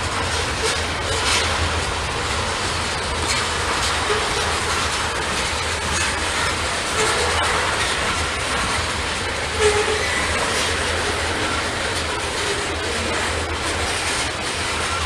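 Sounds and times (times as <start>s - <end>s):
freight train rumbling past: 0.0s - 15.0s
train wheel squeal: 0.0s - 15.0s.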